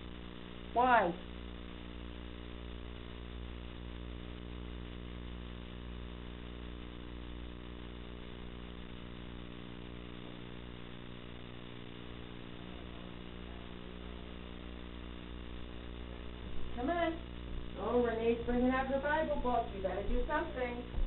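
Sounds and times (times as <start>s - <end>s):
steady electrical buzz: 0.0s - 21.0s.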